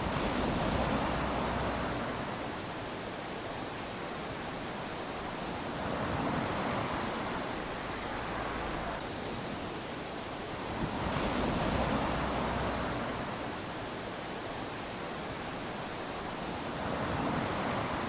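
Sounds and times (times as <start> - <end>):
waves washing onto beach: 0.0 - 18.0.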